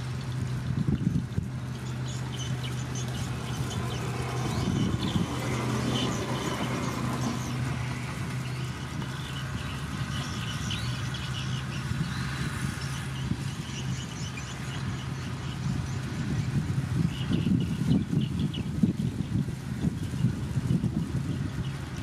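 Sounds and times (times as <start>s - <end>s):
bulldozer diesel engine running: 0.0s - 17.8s.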